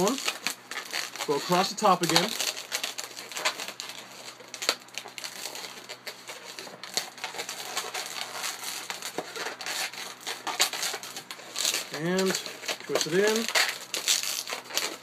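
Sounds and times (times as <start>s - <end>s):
balloons rubbing and scraping: 0.0s - 15.0s.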